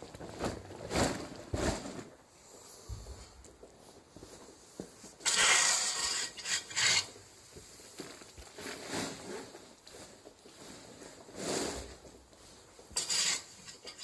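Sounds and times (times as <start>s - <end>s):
hay fork scraping gritty floor: 0.1s - 2.2s, 3.2s - 14.0s.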